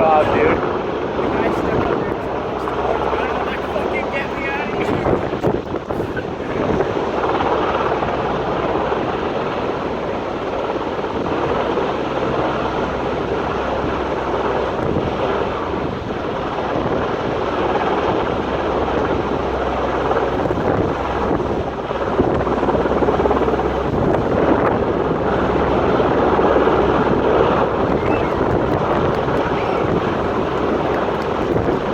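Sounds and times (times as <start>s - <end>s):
helicopter running: 0.0s - 31.9s
wind buffeting microphone: 0.0s - 31.9s.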